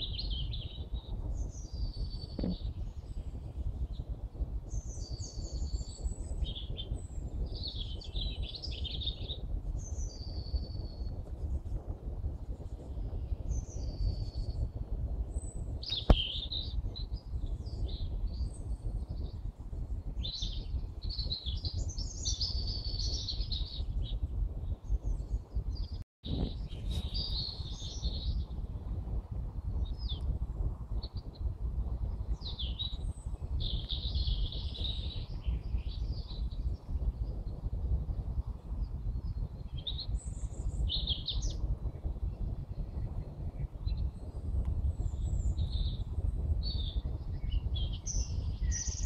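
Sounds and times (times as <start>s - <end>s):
birds singing and chirping: 0.0s - 11.2s, 12.8s - 19.4s, 20.1s - 28.6s, 32.0s - 43.2s, 43.8s - 49.0s
low steady rumble: 0.0s - 49.0s.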